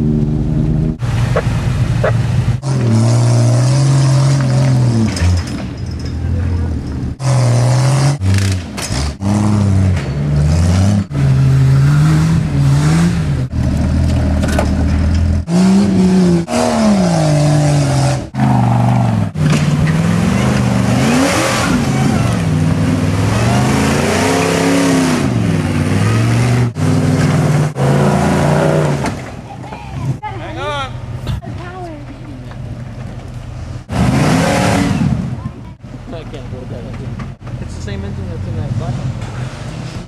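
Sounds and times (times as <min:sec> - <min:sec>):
off-road engines revving: 0:00.0 - 0:40.0.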